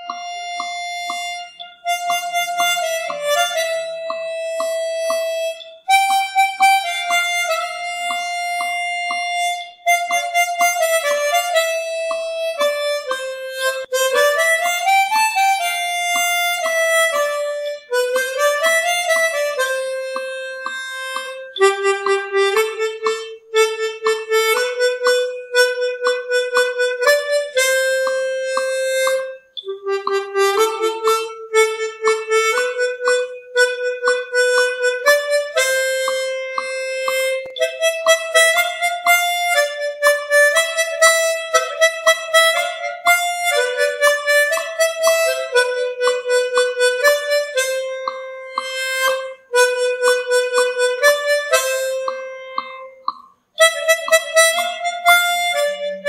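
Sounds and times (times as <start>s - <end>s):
plucked rhythmic accompaniment: 0.0s - 56.0s.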